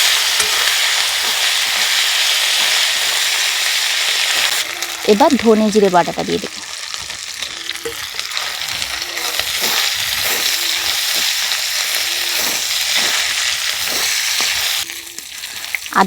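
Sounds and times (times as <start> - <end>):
spatula stirring: 0.0 - 5.2, 6.6 - 15.9
paste sizzling in hot oil: 0.0 - 16.0.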